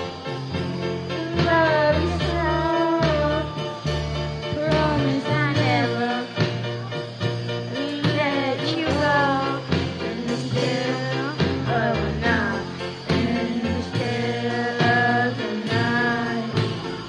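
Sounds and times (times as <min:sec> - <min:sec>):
backing track with bass and beat: 0:00.0 - 0:17.0
boys singing into microphones: 0:01.2 - 0:03.8, 0:04.5 - 0:06.5, 0:07.7 - 0:17.0.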